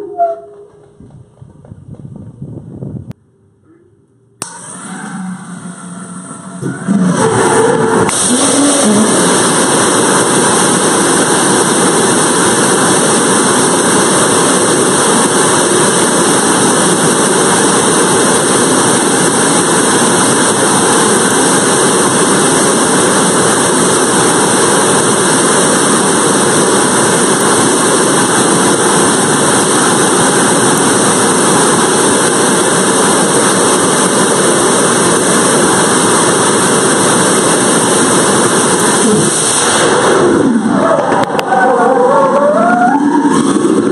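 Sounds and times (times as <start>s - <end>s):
rocket engine roaring: 4.4s - 43.9s.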